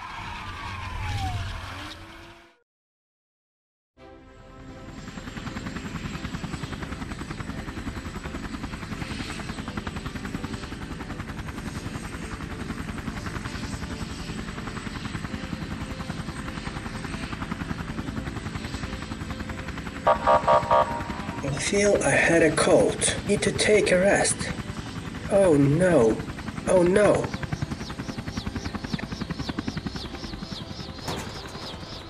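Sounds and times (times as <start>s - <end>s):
helicopter rotor chop and engine: 0.0s - 2.4s, 4.2s - 32.0s.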